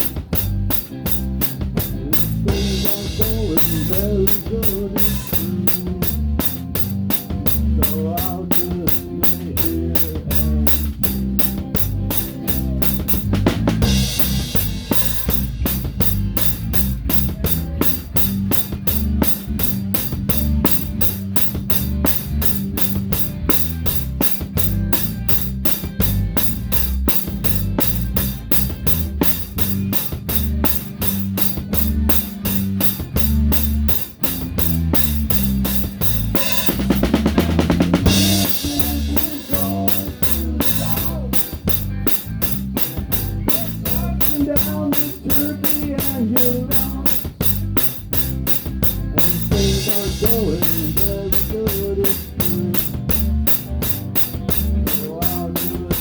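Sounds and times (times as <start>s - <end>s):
fast cymbal pattern: 0.0s - 56.0s
rock band playing: 0.0s - 56.0s.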